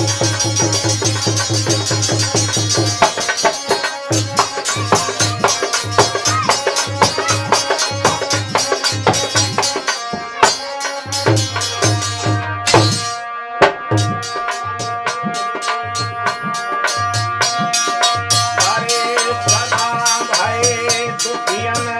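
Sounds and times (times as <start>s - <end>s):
hand drum rhythm: 0.0s - 21.9s
harmonium chords: 0.0s - 21.9s.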